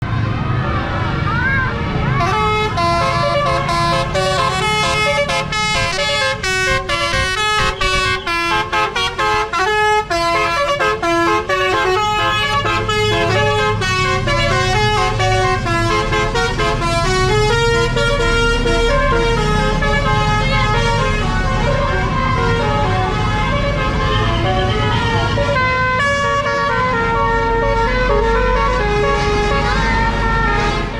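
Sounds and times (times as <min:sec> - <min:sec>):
bus engine rumble: 0:00.0 - 0:30.9
musical air horn melody: 0:02.2 - 0:30.9.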